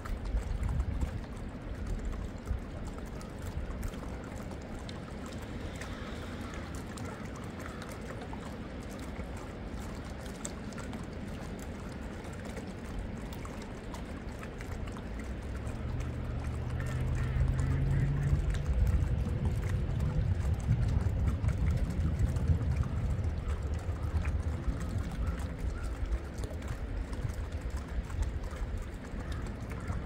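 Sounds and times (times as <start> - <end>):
running water: 0.0 - 30.0.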